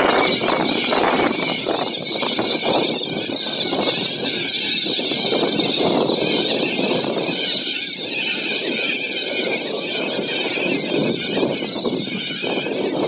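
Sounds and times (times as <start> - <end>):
flock of parrots screeching: 0.0 - 13.0.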